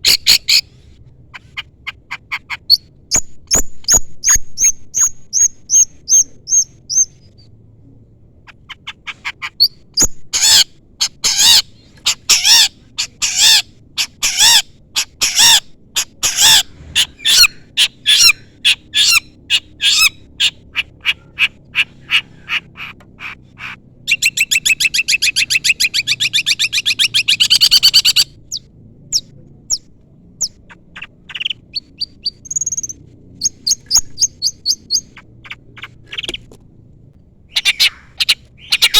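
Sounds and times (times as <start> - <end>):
bird harsh chirps and trill: 0.0 - 0.8, 1.4 - 7.5, 8.5 - 36.5, 37.5 - 38.9.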